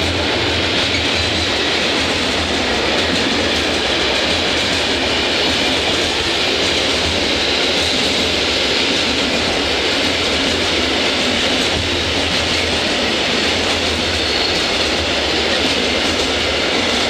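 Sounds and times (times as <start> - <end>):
steel wheels running on rails: 0.0 - 17.0.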